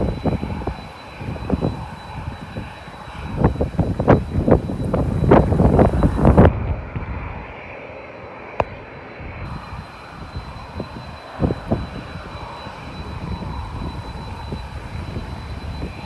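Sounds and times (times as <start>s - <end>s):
distant aircraft engines humming: 0.0s - 16.0s.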